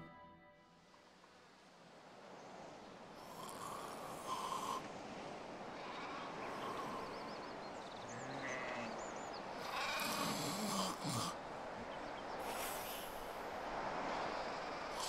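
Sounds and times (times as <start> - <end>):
soft airy hiss: 0.9 - 7.8, 9.6 - 15.0.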